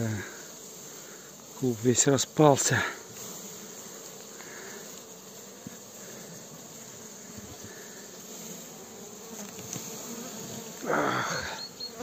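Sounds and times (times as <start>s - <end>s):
bees buzzing in a hive: 0.0s - 12.0s.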